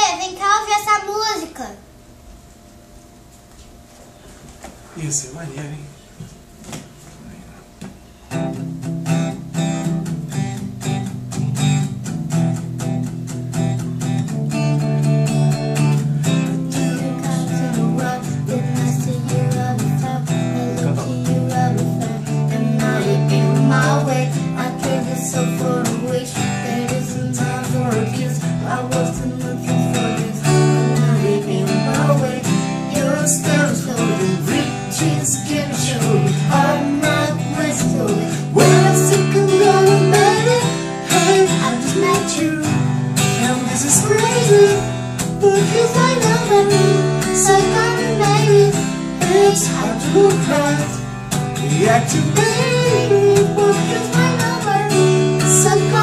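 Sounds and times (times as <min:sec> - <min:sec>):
acoustic guitar strumming: 0:08.0 - 0:56.0.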